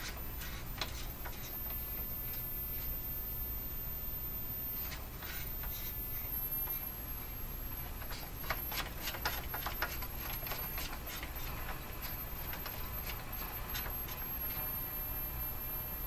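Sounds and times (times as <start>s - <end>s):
radio hum and hiss: 0.0s - 16.0s
radio tuning clicks and crackles: 0.0s - 16.0s.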